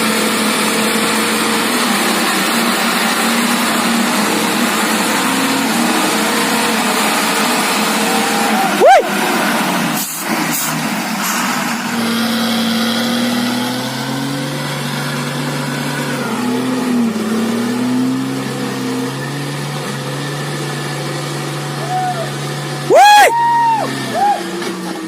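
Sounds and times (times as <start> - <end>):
truck engine running under load: 0.0 - 25.0.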